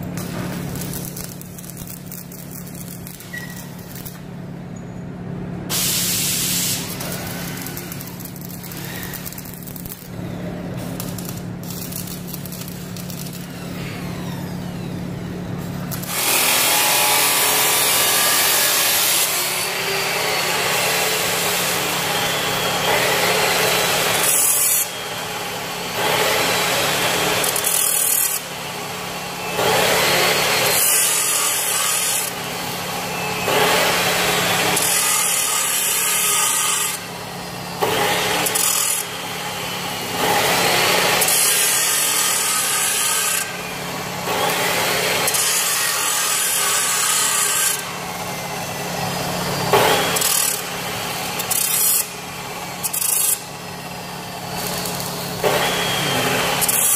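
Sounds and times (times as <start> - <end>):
welding arc crackling and hissing: 0.0 - 4.6, 5.7 - 14.8, 15.6 - 56.9.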